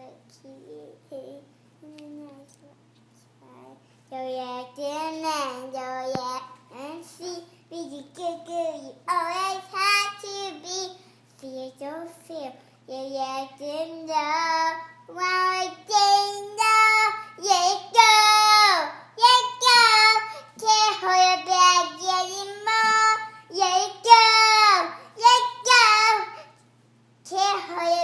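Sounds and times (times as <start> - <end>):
girl singing: 0.0 - 2.7, 3.4 - 26.6, 27.2 - 28.0.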